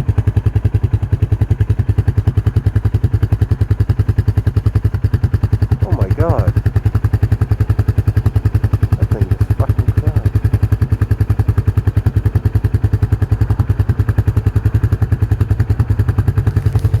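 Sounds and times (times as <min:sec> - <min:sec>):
engine running with even throb: 0:00.0 - 0:17.0.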